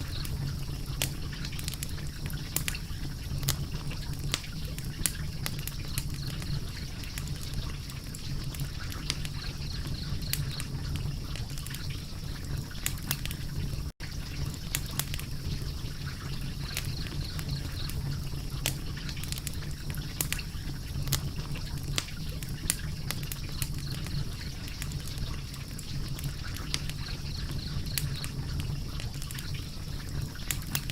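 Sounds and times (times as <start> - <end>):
low rumble of flames: 0.0 - 30.9
wood fire crackling and popping: 0.0 - 30.9.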